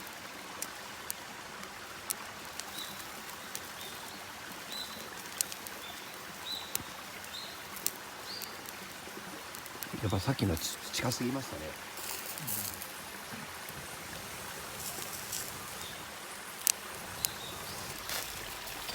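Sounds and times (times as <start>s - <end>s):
campfire crackling and popping: 0.0s - 18.9s.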